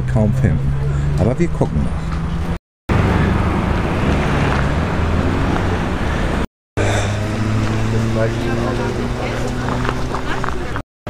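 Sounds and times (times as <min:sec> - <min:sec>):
outdoor noise: 0:00.0 - 0:10.8
vehicle engine running: 0:00.4 - 0:10.8.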